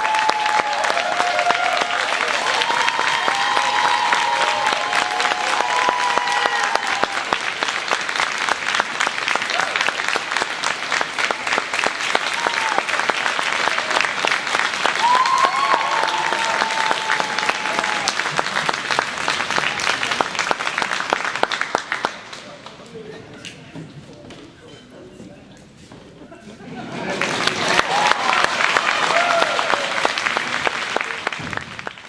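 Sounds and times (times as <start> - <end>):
audience applauding: 0.0 - 22.8, 27.0 - 32.0.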